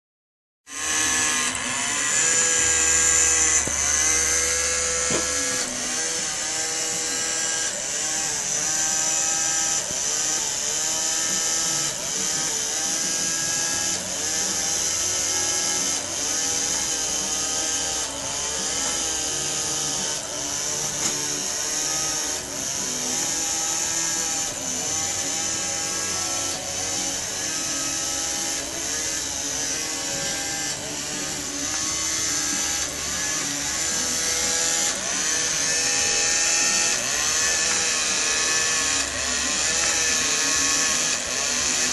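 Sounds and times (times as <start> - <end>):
small electric motor whining: 0.7 - 41.9.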